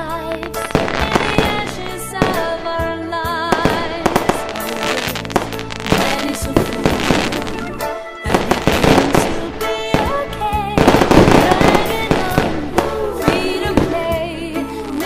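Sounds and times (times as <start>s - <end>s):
fireworks bangs and crackles: 0.0s - 15.0s
song with singing voice: 0.0s - 15.0s.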